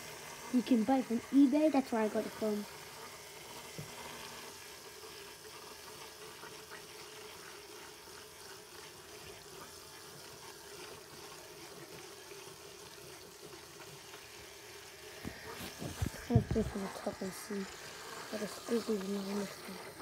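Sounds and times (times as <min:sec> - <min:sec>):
small propeller motor humming: 0:00.0 - 0:20.0
water churning in a bottle: 0:00.0 - 0:20.0.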